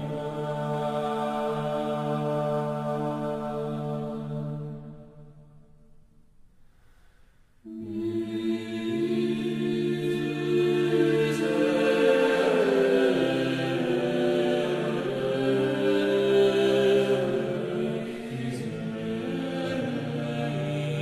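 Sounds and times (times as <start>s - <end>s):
slow choral music: 0.0s - 21.0s.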